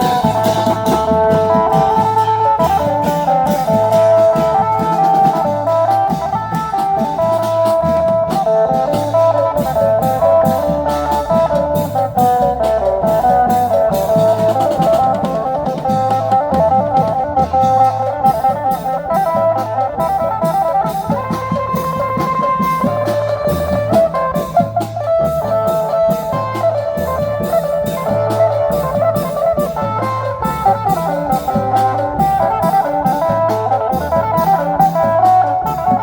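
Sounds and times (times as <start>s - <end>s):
drum beat: 0.0s - 36.0s
plucked-string lead melody: 0.0s - 36.0s.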